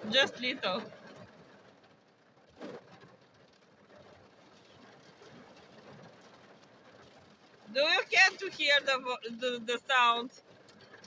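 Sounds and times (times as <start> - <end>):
heavy rain on a car: 0.0 - 11.0.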